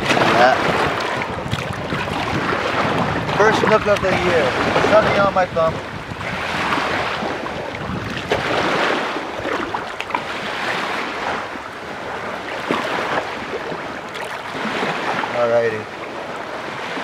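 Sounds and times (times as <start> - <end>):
water sloshing and lapping: 0.0 - 17.0.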